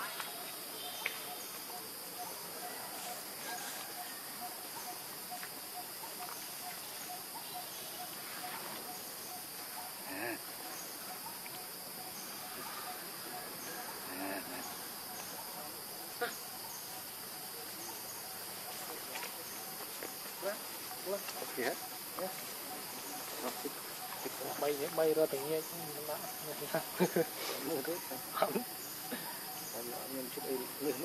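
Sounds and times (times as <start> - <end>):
high insect hiss: 0.0 - 31.0
insects chirping: 0.0 - 31.0.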